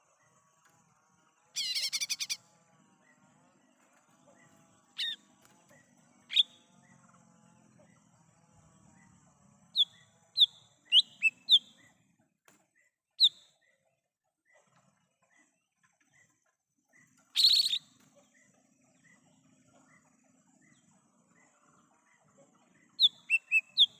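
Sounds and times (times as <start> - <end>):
bird chirping: 0.0 - 23.9.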